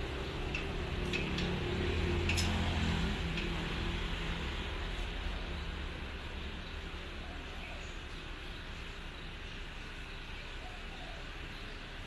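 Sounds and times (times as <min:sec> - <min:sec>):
passing road traffic hum: 0:00.0 - 0:12.0.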